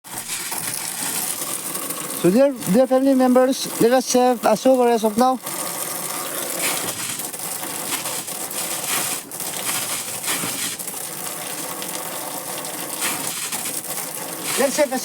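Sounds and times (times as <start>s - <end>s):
water gushing from a pipe: 0.0s - 15.0s.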